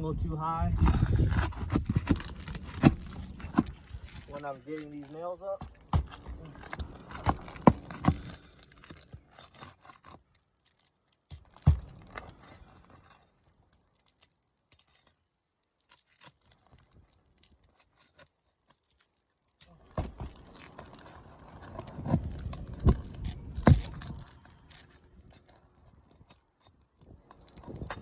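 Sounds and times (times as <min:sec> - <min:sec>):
shingle scraping and tearing: 0:00.1 - 0:28.0.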